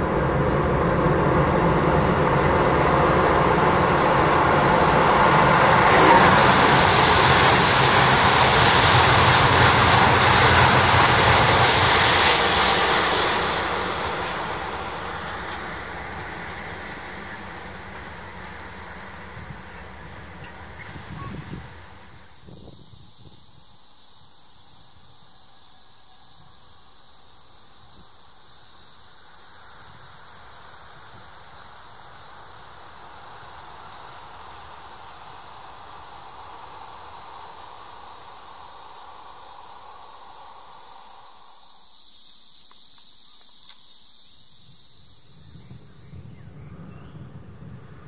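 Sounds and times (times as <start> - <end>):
distant high-speed train rushing: 0.0 - 48.0
insects chirring: 0.0 - 48.0.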